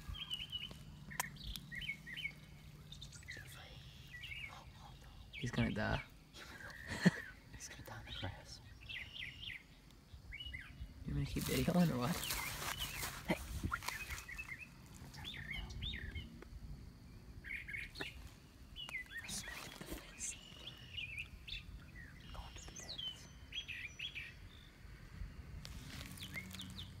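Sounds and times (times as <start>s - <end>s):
bird chirping: 0.0s - 25.0s, 25.8s - 27.0s.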